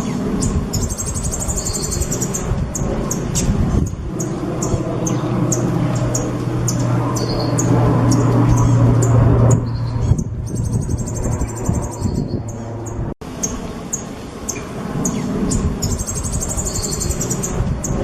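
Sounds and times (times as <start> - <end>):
songbird chirping and trilling: 0.0 - 18.0
steady low hum: 0.0 - 18.0.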